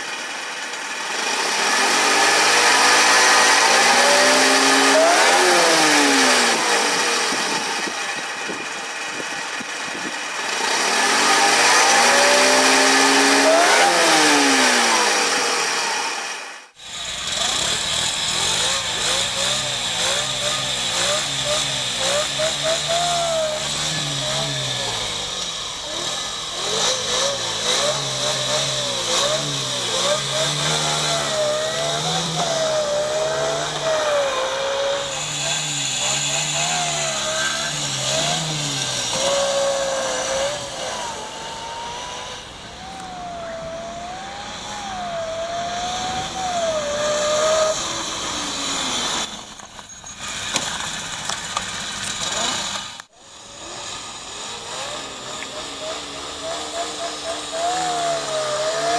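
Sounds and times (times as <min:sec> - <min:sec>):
motorcycle engine revving: 0:00.0 - 0:58.9
supercharger whine: 0:00.0 - 0:58.9.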